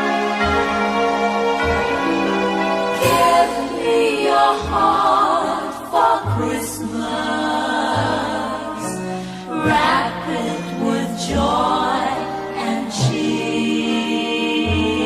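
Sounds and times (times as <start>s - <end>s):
choir singing held harmonies: 0.0s - 15.0s
bass notes: 0.3s - 13.7s.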